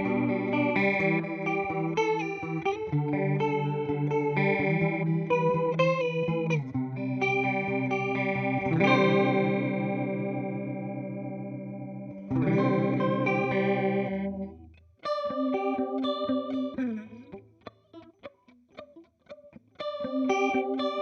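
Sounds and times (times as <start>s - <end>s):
electric guitar with chorus: 0.0s - 21.0s.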